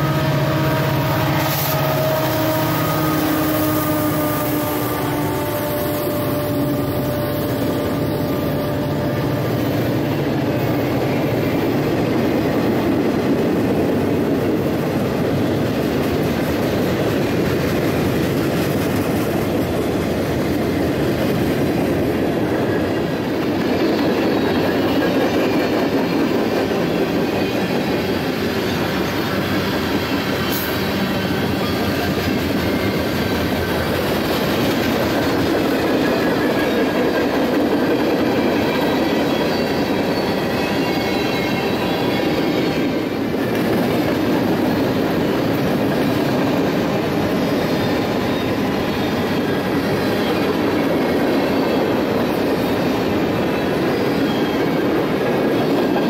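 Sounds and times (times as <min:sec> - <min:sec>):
diesel locomotive engine hum: 0:00.0 - 0:56.0
steel wheels rumbling on rail: 0:00.0 - 0:56.0
clickety-clack over rail joints: 0:03.0 - 0:56.0.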